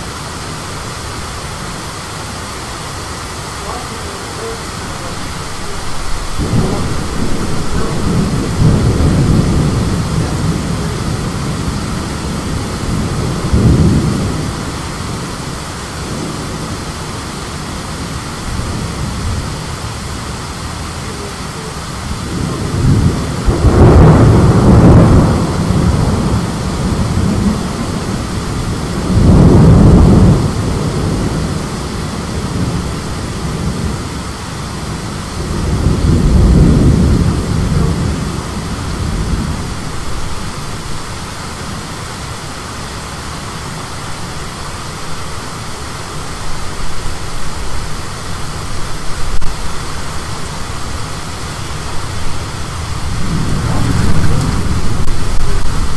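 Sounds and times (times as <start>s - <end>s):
steady rain: 0.0s - 55.9s
thunder rumbling: 0.6s - 42.0s, 46.4s - 55.9s.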